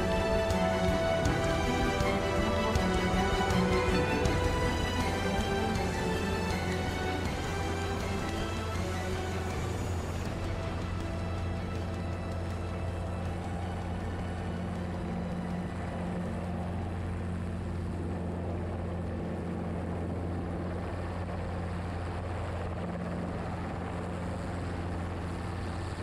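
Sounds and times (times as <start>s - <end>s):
helicopter rotor and engine drone: 0.0s - 26.0s.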